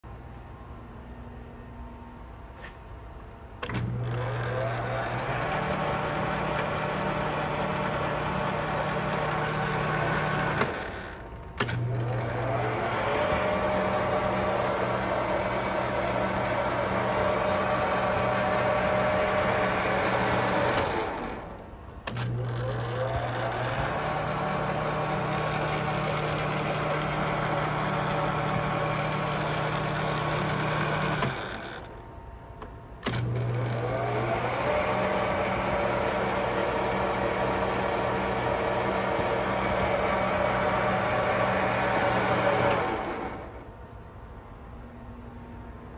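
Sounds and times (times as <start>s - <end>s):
metal lathe running: 3.6s - 32.1s, 33.0s - 43.8s.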